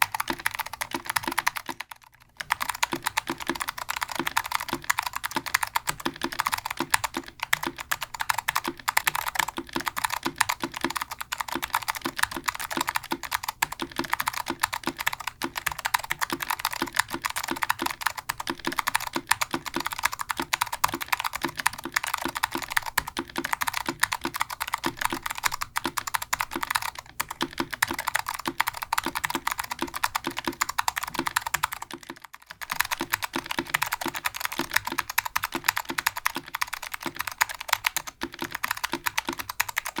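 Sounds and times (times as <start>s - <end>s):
fast typing on clicky keyboard: 0.0s - 40.0s.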